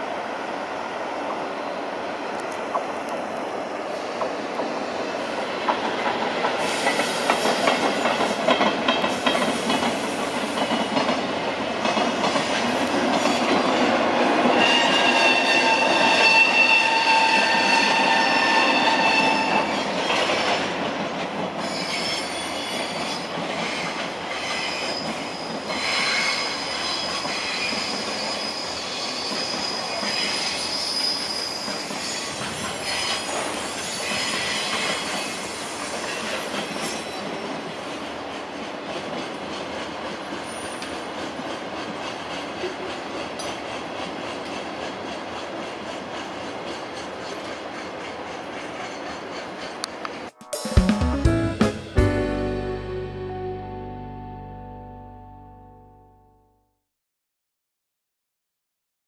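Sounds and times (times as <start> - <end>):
freight train rolling past: 0.0 - 55.1.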